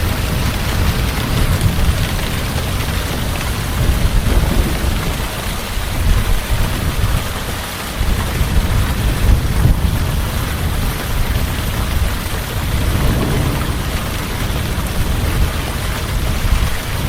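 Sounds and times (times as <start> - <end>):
heavy rain falling: 0.0 - 17.0
low thunder rumble: 0.2 - 7.6, 8.4 - 17.0.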